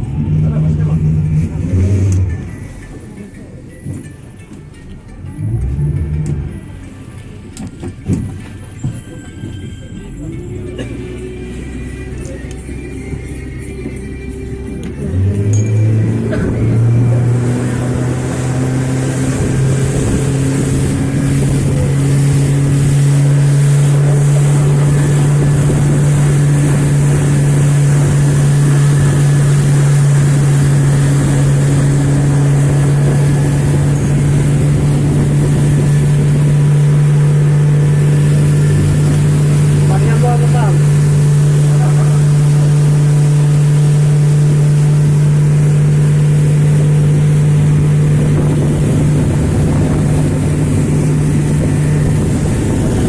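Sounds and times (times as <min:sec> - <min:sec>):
motorboat engine humming: 0:00.0 - 0:53.0.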